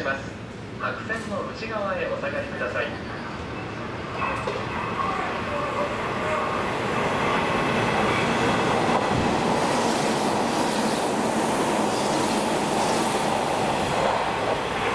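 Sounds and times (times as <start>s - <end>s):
train passing at speed: 0.0s - 14.9s.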